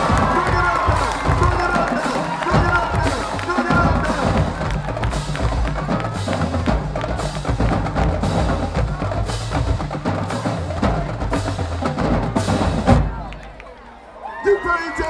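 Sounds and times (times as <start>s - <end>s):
drums and cymbals hitting: 0.0s - 13.6s
marching band playing: 0.0s - 13.8s.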